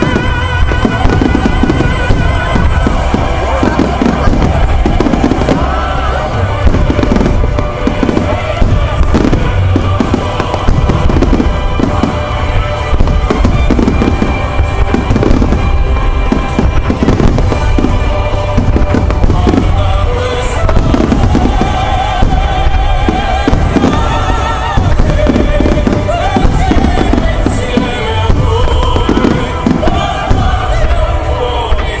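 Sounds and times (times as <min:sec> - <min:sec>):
fireworks booming and crackling: 0:00.0 - 0:32.0.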